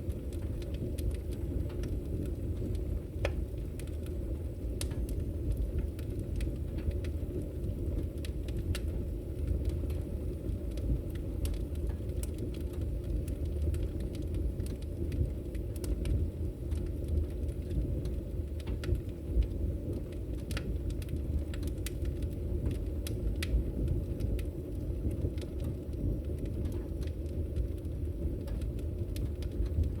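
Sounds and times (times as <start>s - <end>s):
low rush of burning: 0.0s - 30.0s
wood fire crackling and popping: 0.0s - 30.0s.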